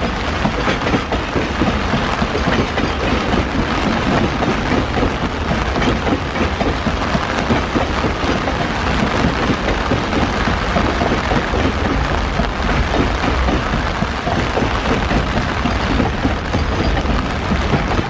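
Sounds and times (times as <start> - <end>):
freight wagons rolling past: 0.0 - 18.0
heavy rain: 0.0 - 18.0.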